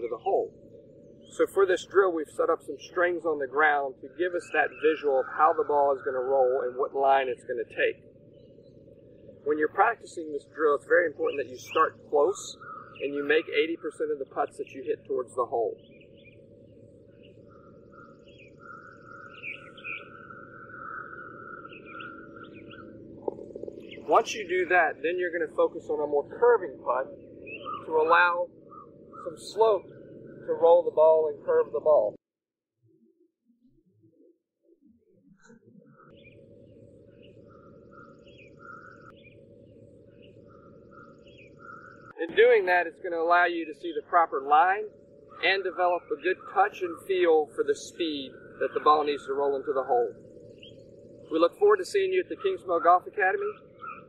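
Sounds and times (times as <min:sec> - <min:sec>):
high-pitched bird trill: 0:00.0 - 0:32.1, 0:35.4 - 0:54.0
steady low hiss: 0:00.0 - 0:32.1, 0:39.6 - 0:53.7.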